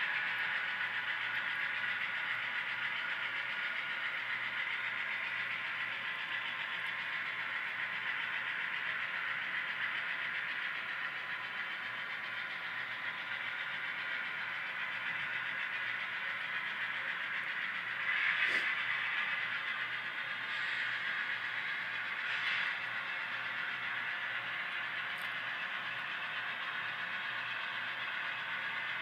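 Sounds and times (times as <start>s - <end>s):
model train whirring: 0.0s - 29.0s.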